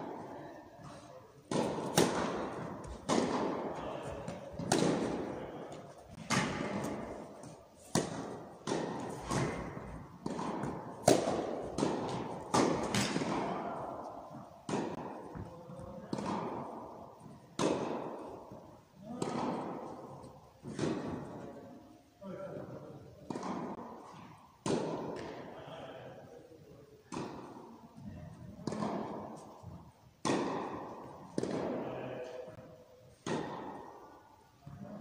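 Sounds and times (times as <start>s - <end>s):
tennis ball bouncing: 0.0s - 21.6s, 23.2s - 25.4s, 27.1s - 34.1s
tennis racket striking ball: 0.0s - 21.6s, 23.2s - 25.4s, 27.1s - 27.7s, 28.4s - 34.2s.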